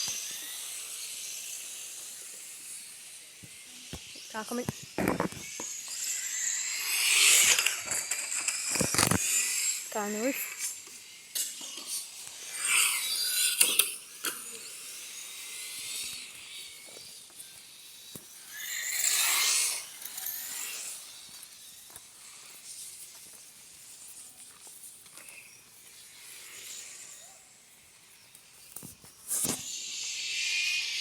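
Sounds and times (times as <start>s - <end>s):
rc car motor whining past: 0.0s - 23.4s, 24.0s - 31.0s
distant rc cars whirring and clicking: 0.0s - 31.0s.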